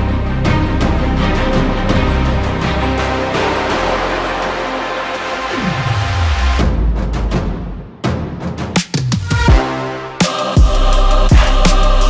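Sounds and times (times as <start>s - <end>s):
cinematic background music: 0.0s - 12.0s.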